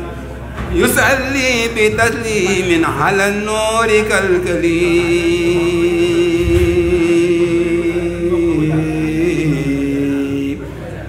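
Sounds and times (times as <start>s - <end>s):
man chanting into a microphone: 0.6s - 11.0s.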